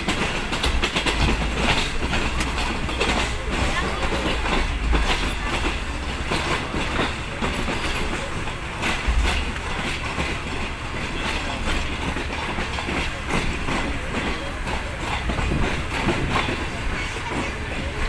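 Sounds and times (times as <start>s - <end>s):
train rumble: 0.0s - 18.0s
wheels clacking over rail joints: 0.0s - 18.0s.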